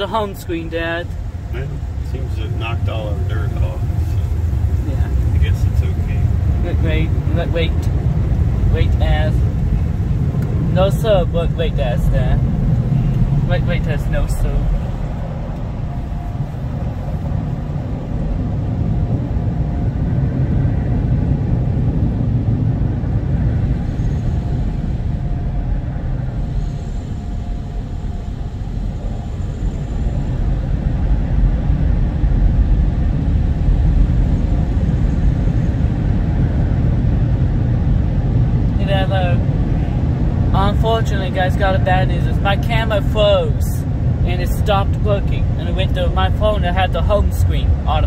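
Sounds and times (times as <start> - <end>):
car wash machinery rumbling: 0.0 - 48.0.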